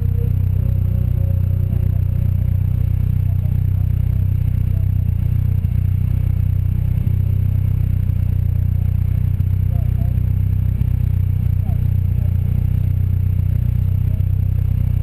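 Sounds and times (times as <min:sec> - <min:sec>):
sports car engine idling: 0:00.0 - 0:15.0.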